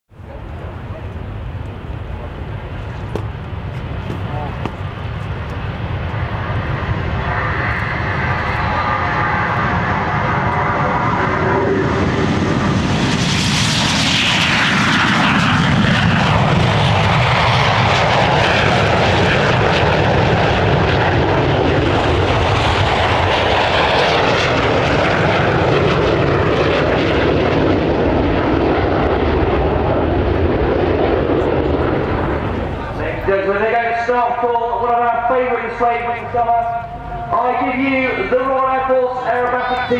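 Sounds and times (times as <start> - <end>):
jet engines roaring: 0.2 - 39.9.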